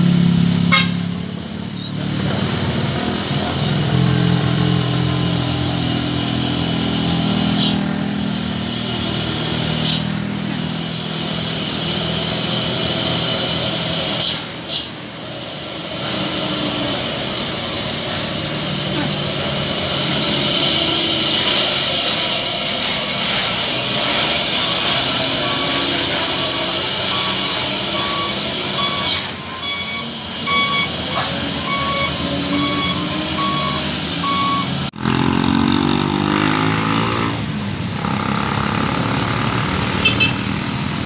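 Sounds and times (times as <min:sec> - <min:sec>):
vehicle engines running: 0:00.0 - 0:41.0.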